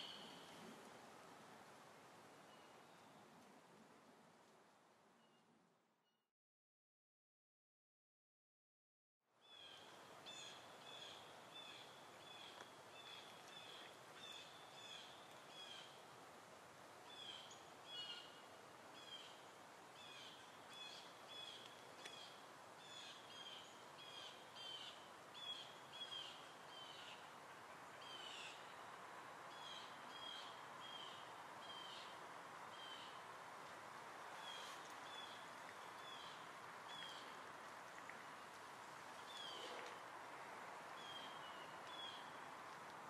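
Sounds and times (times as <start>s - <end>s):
soft background hiss: 0.0s - 6.0s, 9.4s - 43.0s.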